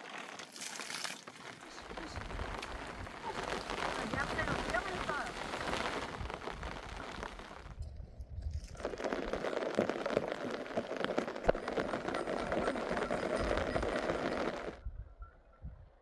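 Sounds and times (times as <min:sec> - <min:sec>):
rain pattering on a surface: 0:00.0 - 0:07.8, 0:08.7 - 0:14.8.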